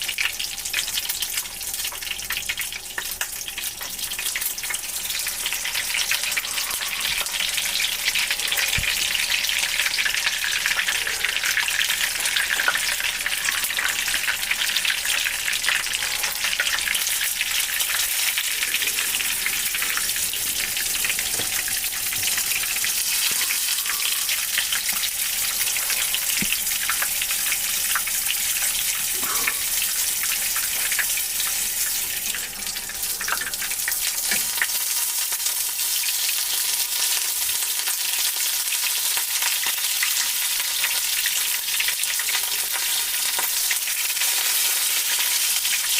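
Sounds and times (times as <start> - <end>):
food deep-frying in oil: 0.0 - 45.9.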